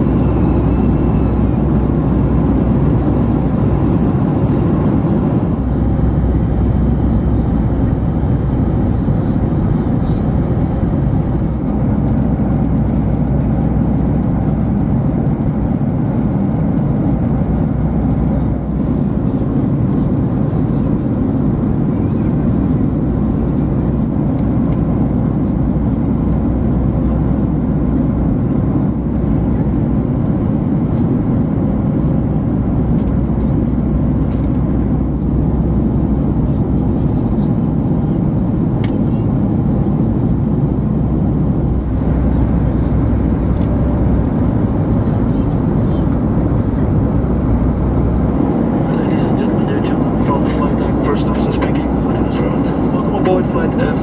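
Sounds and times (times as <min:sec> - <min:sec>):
airliner cabin noise: 0:00.0 - 0:54.0.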